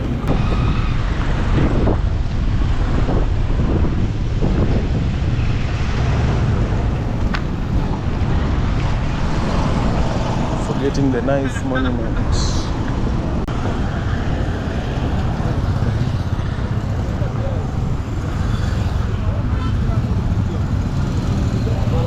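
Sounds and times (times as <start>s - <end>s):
road traffic: 0.0s - 22.0s
wind buffeting microphone: 0.0s - 22.0s.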